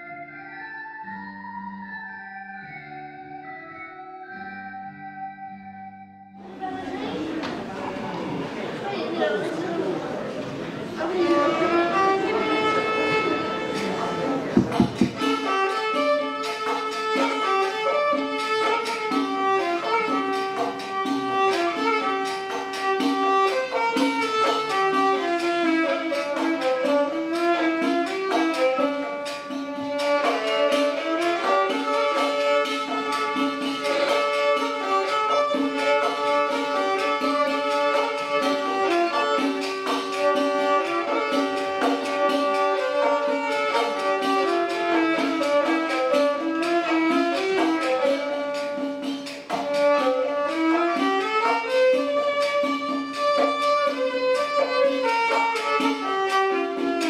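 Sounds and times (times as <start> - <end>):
fiddle-like string melody: 0.0 - 57.0.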